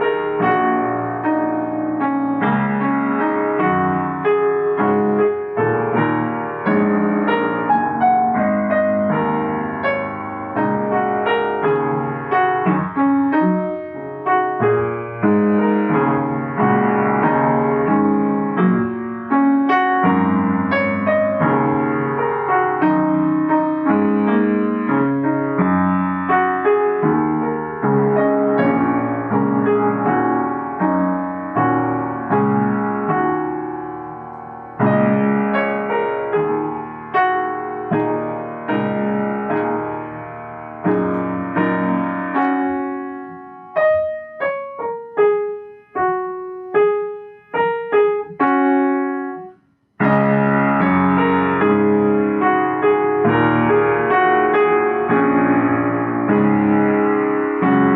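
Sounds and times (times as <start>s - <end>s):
solo piano playing: 0.0s - 57.9s.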